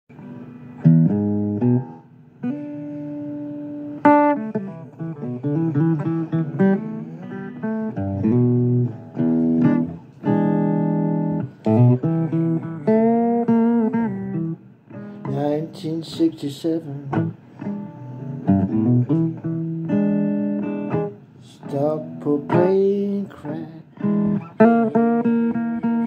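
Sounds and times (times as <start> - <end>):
blues guitar playing: 0.1 - 26.0.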